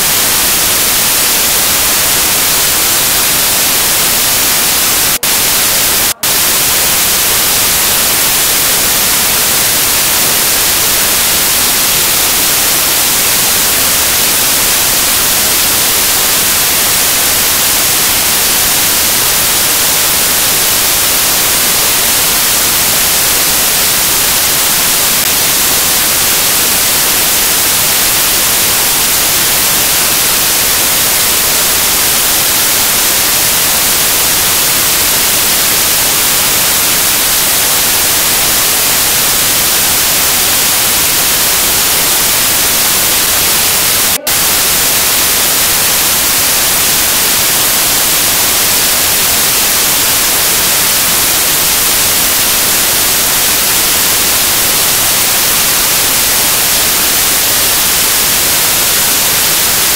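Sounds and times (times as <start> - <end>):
loud static hiss: 0.0 - 59.9.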